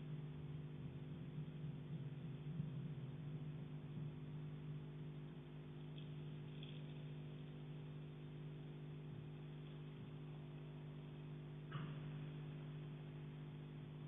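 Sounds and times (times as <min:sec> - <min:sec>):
low hum of fixed tones: 0:00.0 - 0:14.0.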